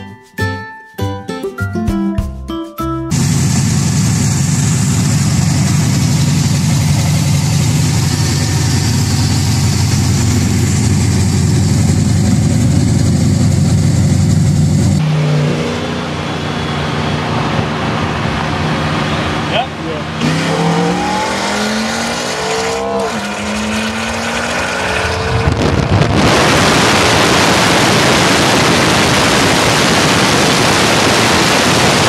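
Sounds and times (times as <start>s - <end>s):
car engine on the road: 3.1s - 32.0s
loud car engine running: 3.1s - 32.0s.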